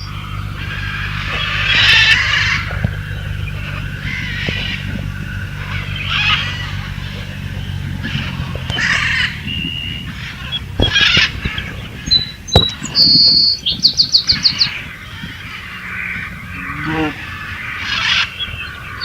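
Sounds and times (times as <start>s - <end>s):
bird chirps and calls: 0.0s - 19.0s.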